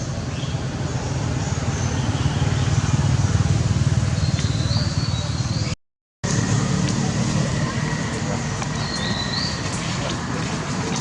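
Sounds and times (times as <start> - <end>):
vehicle engine running: 0.6 - 11.0.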